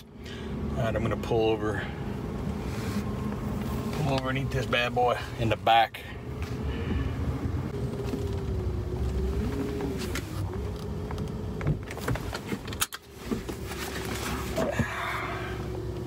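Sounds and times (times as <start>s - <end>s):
car cabin rumble and hum: 0.0s - 16.0s.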